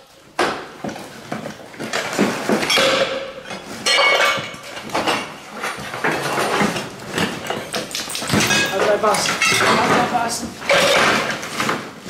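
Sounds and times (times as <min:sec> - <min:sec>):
sheet metal and scrap clattering: 0:01.3 - 0:12.0.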